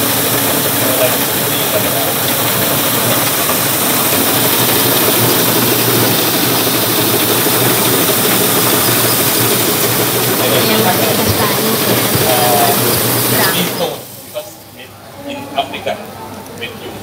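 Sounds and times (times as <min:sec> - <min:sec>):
farm machine engine running: 0:00.0 - 0:14.2.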